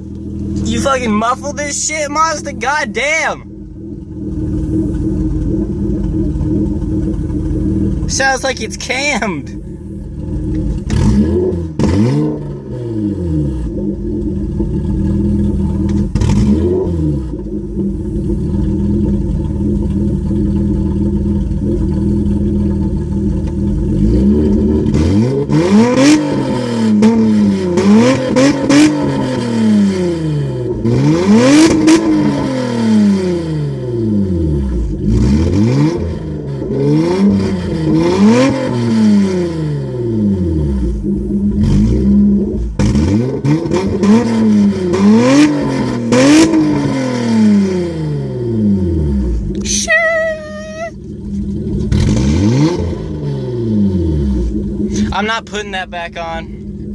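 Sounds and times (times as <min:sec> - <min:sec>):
car engine idling and revving: 0:00.0 - 0:56.9.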